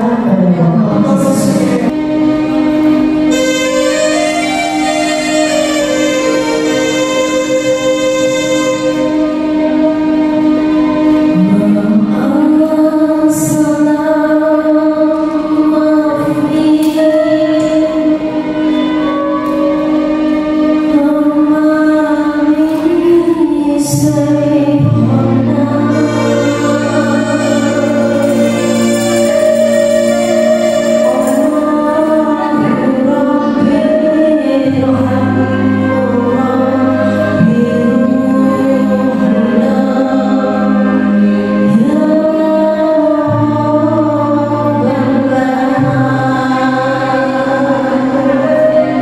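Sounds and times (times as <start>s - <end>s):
devotional keyboard music: 0.0s - 49.0s.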